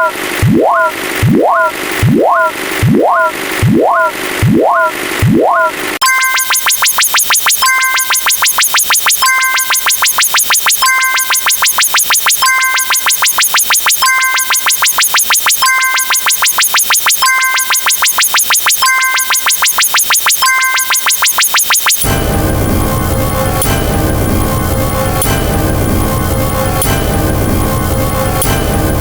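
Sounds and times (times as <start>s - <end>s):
fast sharp electronic clicks: 0.0s - 29.0s.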